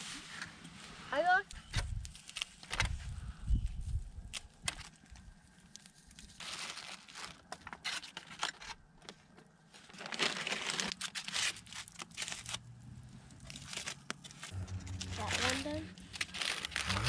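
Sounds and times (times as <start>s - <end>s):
plastic bag and foil crinkling: 1.6s - 3.1s, 3.8s - 17.0s.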